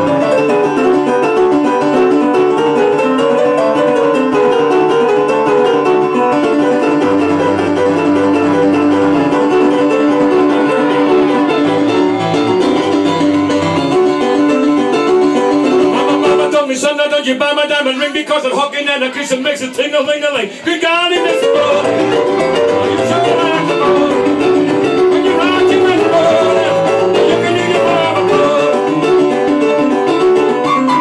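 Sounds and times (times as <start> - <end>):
fast rock and roll piano: 0.0 - 31.0.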